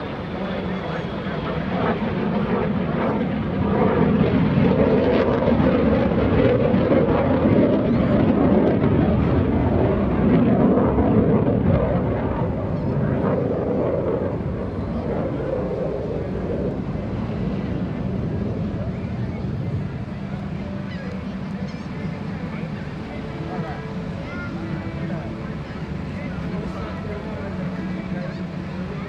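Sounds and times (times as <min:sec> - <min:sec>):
jet engine rumbling flyby: 0:00.0 - 0:29.0.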